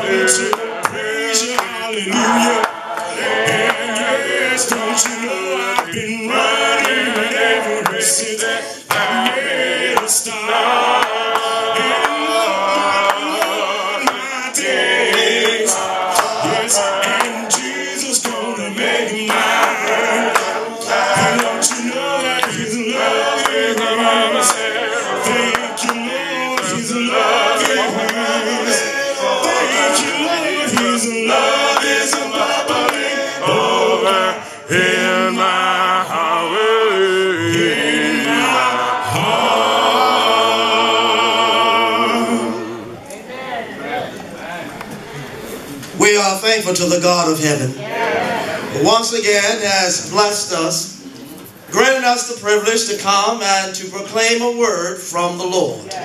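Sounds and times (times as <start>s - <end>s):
congregation singing a cappella: 0.0s - 44.2s, 45.0s - 56.0s.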